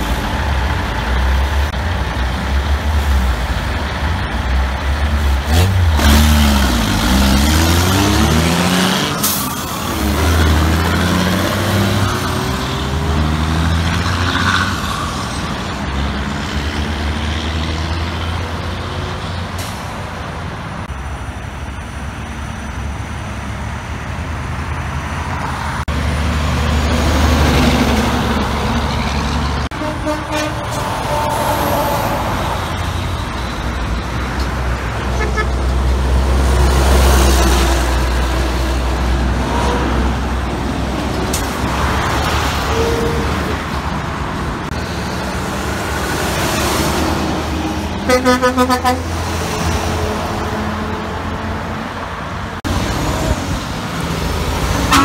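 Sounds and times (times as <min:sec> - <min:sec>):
diesel trucks passing: 0:00.0 - 0:55.0.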